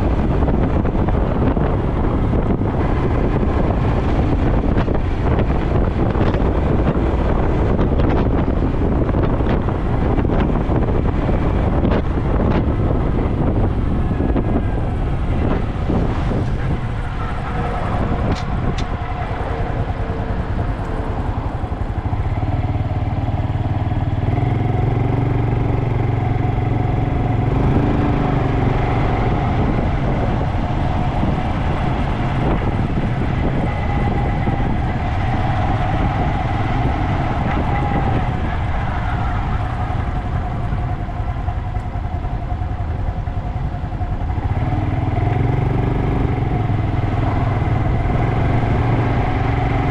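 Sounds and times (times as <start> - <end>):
heavy rushing noise: 0.0 - 49.9
motorcycle engine running: 0.0 - 49.9.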